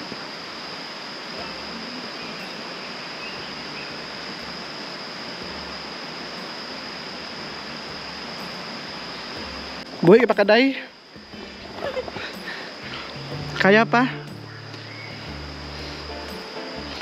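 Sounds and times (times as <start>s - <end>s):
high-pitched insect trill: 0.0s - 17.0s
steady rushing hiss: 0.0s - 17.0s.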